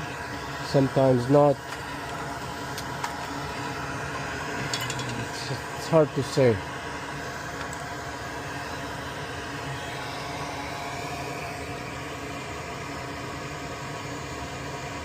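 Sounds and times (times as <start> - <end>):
small electric motor whirring: 0.0 - 13.7.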